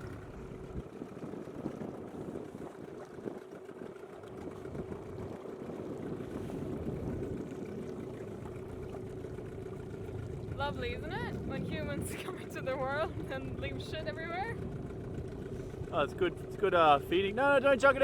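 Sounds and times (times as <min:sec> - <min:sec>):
outboard motor running: 0:00.0 - 0:18.0
water noise: 0:00.0 - 0:18.0.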